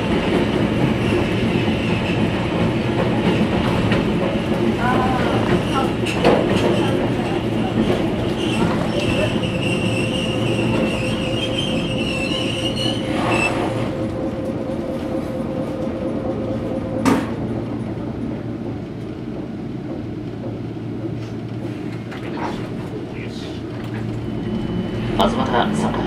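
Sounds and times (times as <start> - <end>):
tram equipment humming: 0.0 - 26.0.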